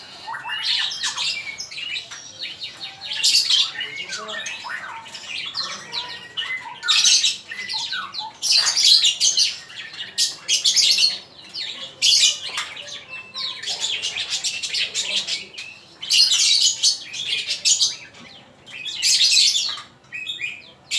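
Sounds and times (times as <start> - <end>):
songbird chattering song: 0.0 - 20.9.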